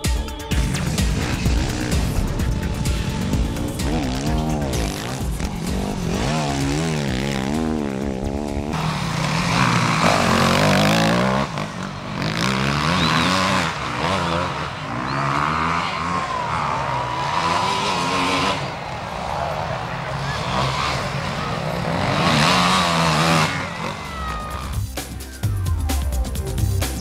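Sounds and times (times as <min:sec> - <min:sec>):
motorcycle engines revving hard: 0:00.6 - 0:24.8.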